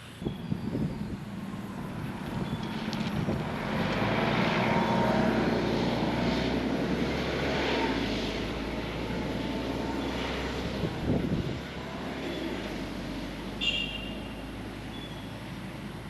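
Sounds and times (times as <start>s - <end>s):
wind noise: 0.0s - 13.3s.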